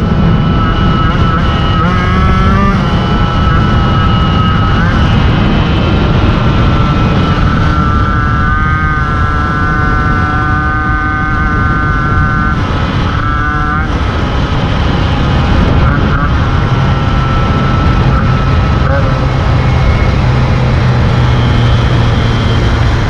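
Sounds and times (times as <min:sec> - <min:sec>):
moped engine at high revs: 0:00.0 - 0:23.0
wind rumble on microphone: 0:00.0 - 0:23.0.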